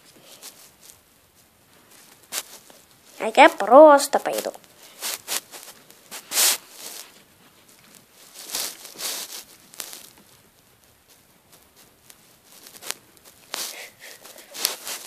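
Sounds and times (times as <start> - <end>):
rustling handling noise: 0.0 - 15.0.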